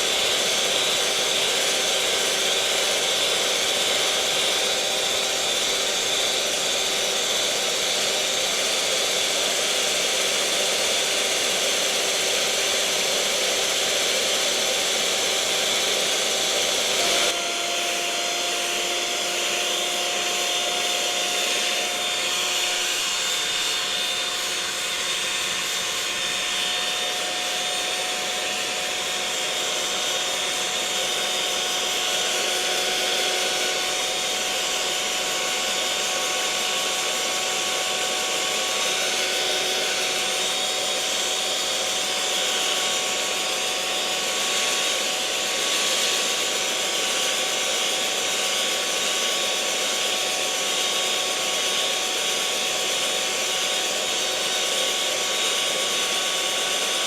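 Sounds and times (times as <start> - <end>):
electric mixer whirring: 0.0 - 57.0.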